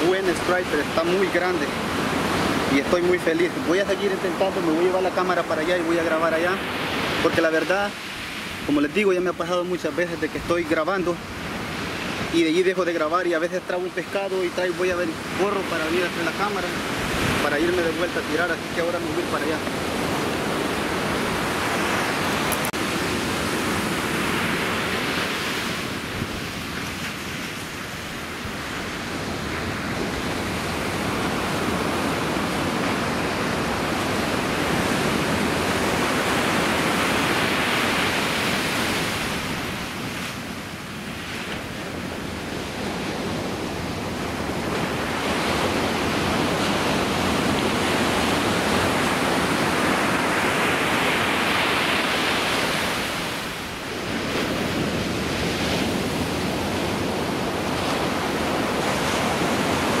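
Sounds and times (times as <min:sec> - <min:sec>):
ocean surf washing on beach: 0:00.0 - 1:00.0.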